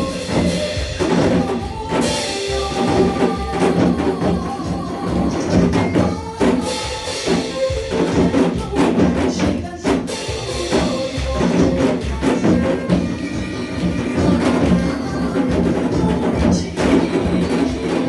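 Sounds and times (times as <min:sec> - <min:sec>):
hourglass drums beaten in unison: 0:00.0 - 0:18.0
recorded pop song: 0:00.0 - 0:18.0.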